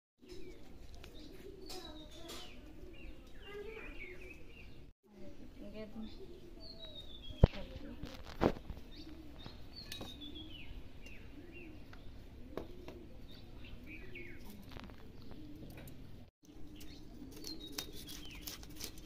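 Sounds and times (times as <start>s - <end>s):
small birds chirping: 0.2s - 19.0s.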